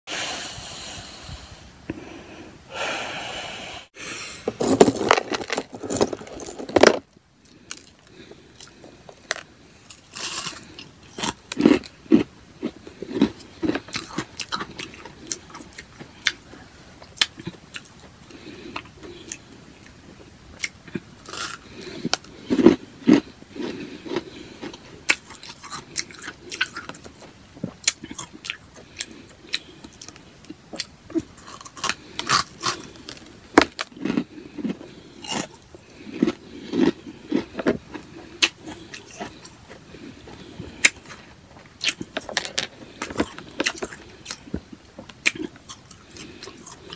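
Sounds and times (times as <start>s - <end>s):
chewing and crunching ice: 4.5s - 46.9s.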